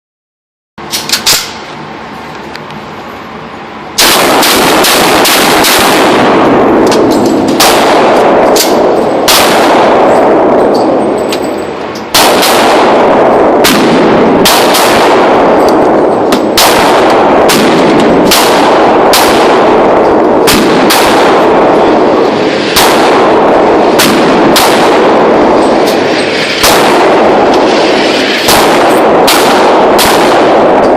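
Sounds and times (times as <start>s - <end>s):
gunshots with ringing tail: 4.0s - 30.9s.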